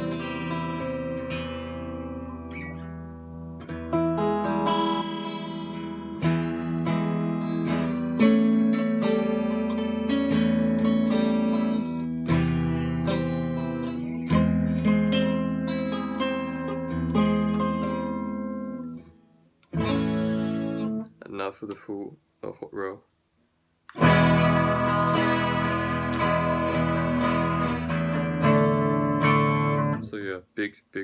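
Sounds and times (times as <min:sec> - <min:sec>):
electric guitar strumming chords: 0:00.0 - 0:21.2, 0:23.9 - 0:30.2.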